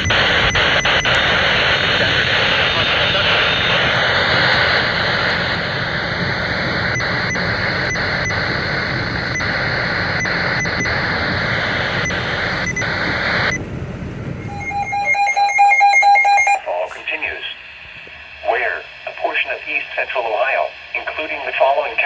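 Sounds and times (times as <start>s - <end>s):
radio static hiss: 0.0s - 13.6s, 16.0s - 22.0s.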